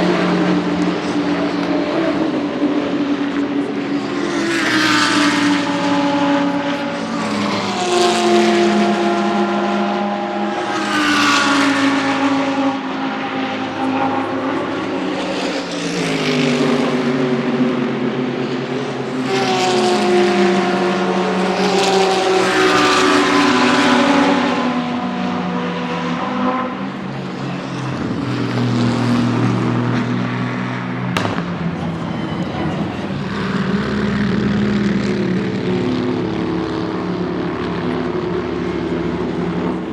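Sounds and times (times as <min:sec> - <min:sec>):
race cars passing at speed: 0:00.0 - 0:39.9.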